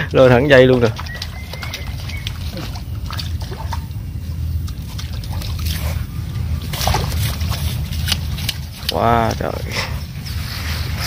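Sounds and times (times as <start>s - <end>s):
fish splashing at water surface: 0.0s - 10.2s
low rumble: 0.0s - 11.0s.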